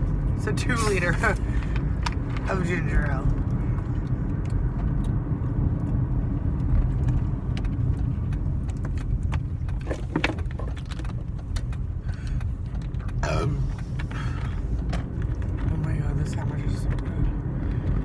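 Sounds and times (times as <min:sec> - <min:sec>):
car interior rumble: 0:00.0 - 0:18.0.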